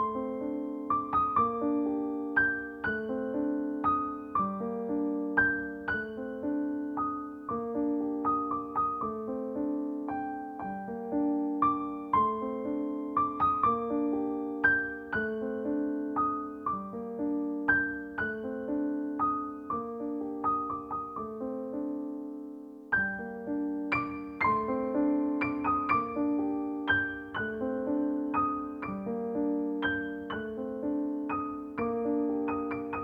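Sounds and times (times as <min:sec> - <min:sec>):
solo piano music: 0:00.0 - 0:33.0.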